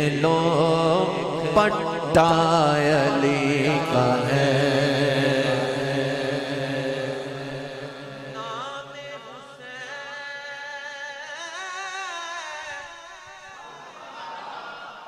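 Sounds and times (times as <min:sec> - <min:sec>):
devotional vocal chanting: 0:00.0 - 0:15.0.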